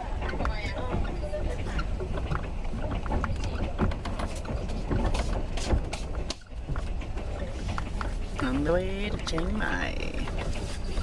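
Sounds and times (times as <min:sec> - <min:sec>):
rattles and clacks: 0:00.0 - 0:11.0
train low rumble: 0:00.0 - 0:11.0.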